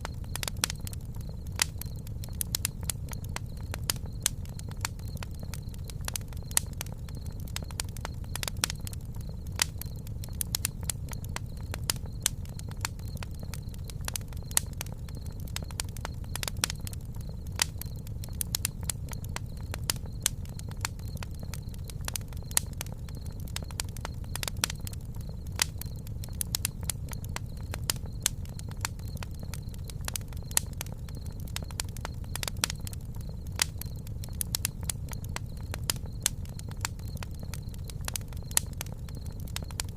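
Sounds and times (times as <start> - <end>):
campfire wood crackling and popping: 0.0 - 39.9.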